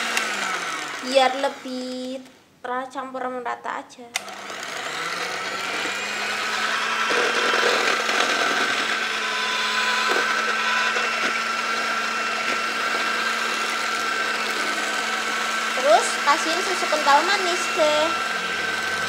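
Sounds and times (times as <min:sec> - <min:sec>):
electric hand mixer whipping batter: 0:00.0 - 0:02.2, 0:04.2 - 0:19.0.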